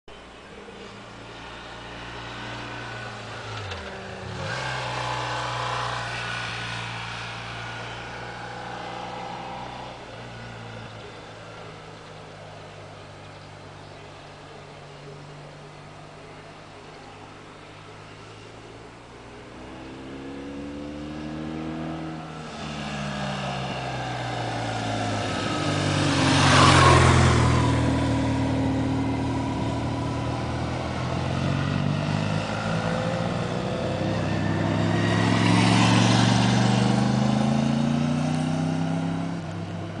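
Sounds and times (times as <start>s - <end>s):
motorcycle engine revving: 1.0s - 12.3s, 17.7s - 40.0s.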